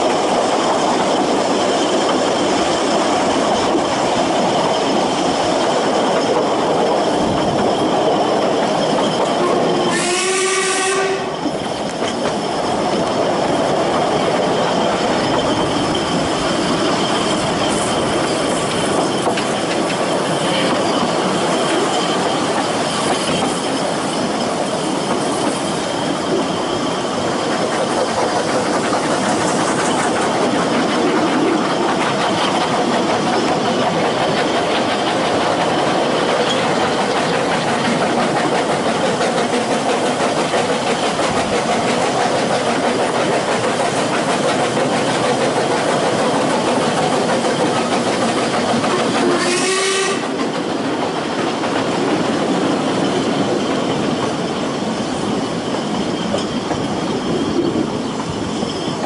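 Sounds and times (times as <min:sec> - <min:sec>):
high wheel squeal: 0:00.0 - 0:50.5, 0:52.4 - 0:59.0
train wheels clattering on rails: 0:00.0 - 0:59.0.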